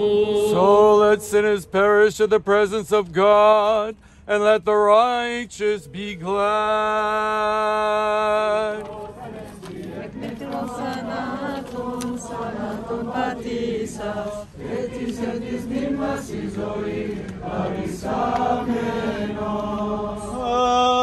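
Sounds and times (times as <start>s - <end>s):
voices chanting a hymn: 0.0s - 21.0s.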